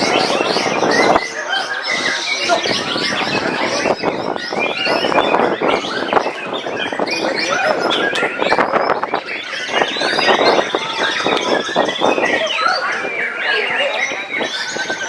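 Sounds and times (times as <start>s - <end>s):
birds whistling and chirping: 0.0s - 15.0s
crowd chatter: 0.0s - 15.0s.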